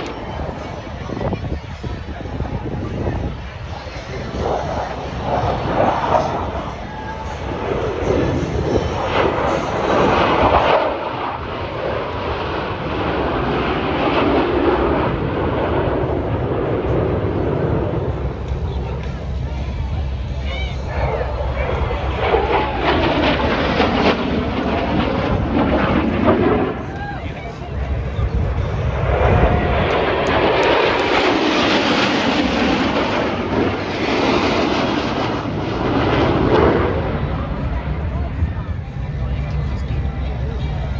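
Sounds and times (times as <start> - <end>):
jet fighters flying past: 0.0 - 40.9.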